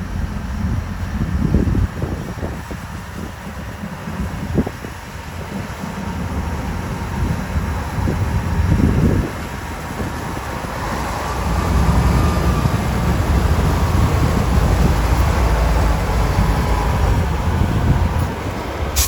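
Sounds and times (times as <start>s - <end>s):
heavy machinery engine rumble: 0.0s - 19.0s.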